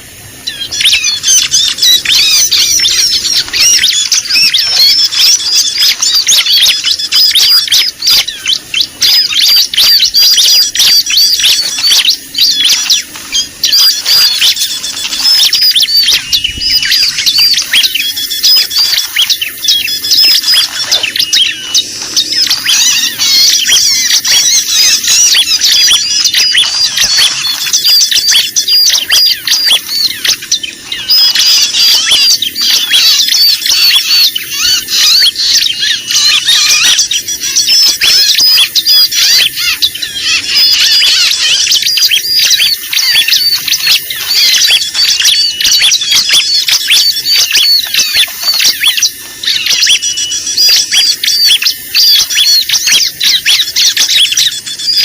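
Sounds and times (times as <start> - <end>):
small birds chattering: 0.0 - 55.0.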